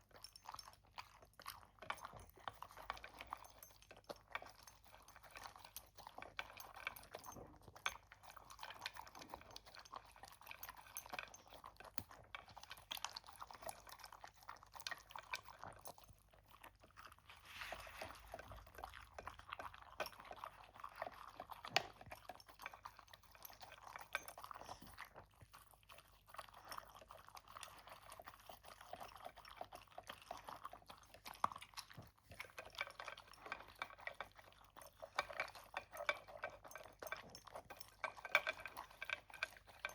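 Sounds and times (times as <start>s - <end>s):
pet chewing food: 0.0s - 39.9s.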